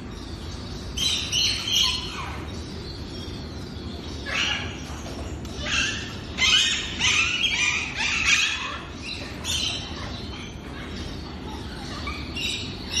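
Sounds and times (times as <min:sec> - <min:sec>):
birds chirping and squawking: 0:00.0 - 0:13.0.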